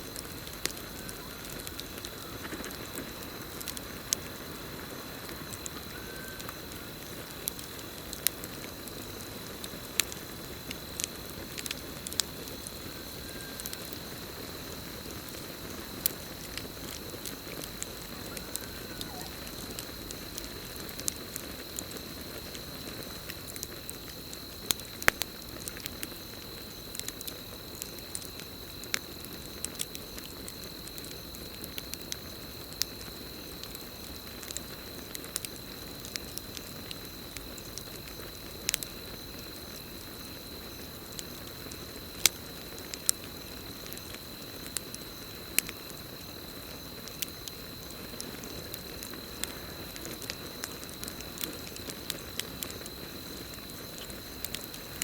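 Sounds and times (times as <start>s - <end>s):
campfire crackling: 0.0s - 55.0s
cricket trill: 0.0s - 55.0s.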